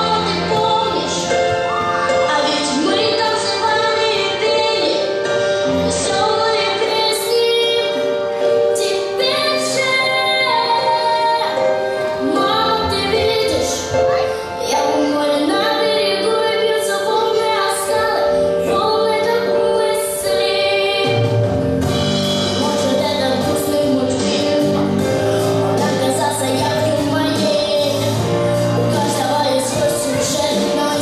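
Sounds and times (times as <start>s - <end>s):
woman singing with instruments: 0.0s - 21.4s, 22.5s - 31.0s.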